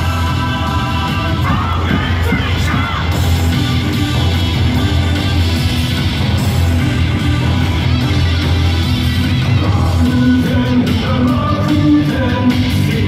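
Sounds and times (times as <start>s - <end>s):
cheer song over loudspeakers: 0.0s - 13.0s.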